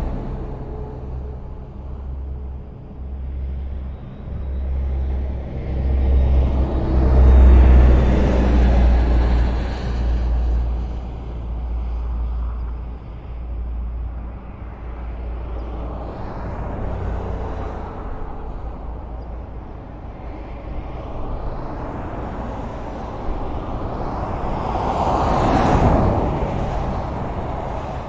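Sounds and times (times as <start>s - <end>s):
highway traffic rumble: 0.0s - 28.0s.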